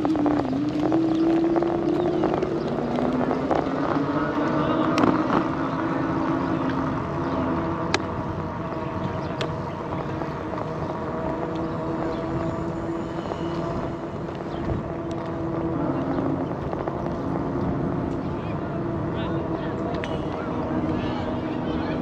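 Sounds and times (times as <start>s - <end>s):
bike clicks: 0.0s - 18.5s
electric motor hum: 0.0s - 22.0s
wind and tyre noise: 0.0s - 22.0s.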